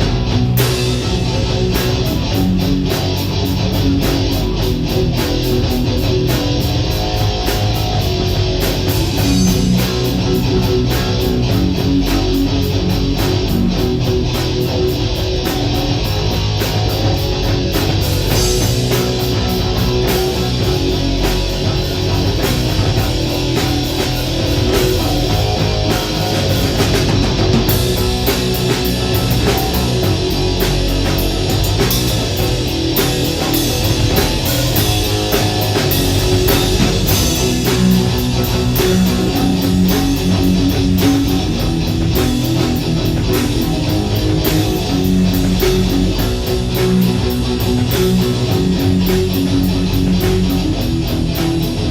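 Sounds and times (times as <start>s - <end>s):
distorted electric guitars: 0.0s - 51.9s
drum kit beat: 0.0s - 51.9s.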